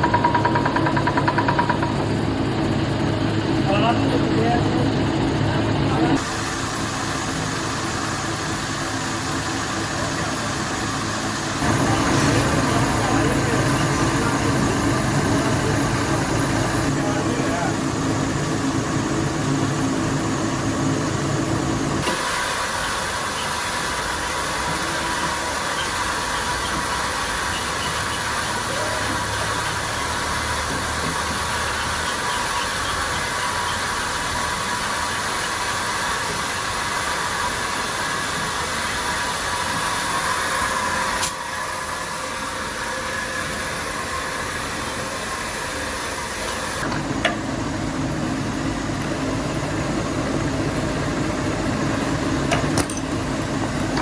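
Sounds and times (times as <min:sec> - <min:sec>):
factory machinery hiss and hum: 0:00.4 - 0:54.0.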